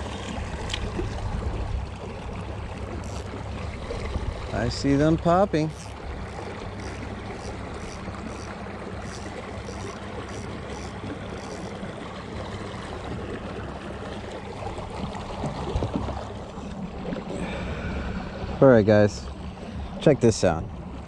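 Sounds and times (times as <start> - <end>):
low steady hum: 0.0 - 21.0
water rushing along a hull: 0.0 - 21.0.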